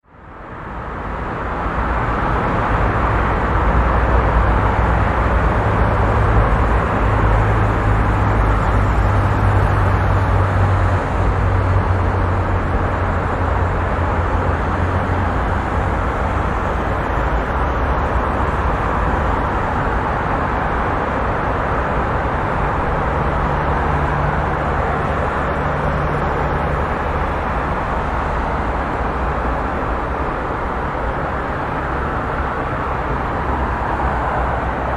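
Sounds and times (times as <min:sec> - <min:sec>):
highway traffic: 0:00.0 - 0:34.9
deep engine rumble: 0:01.1 - 0:34.9.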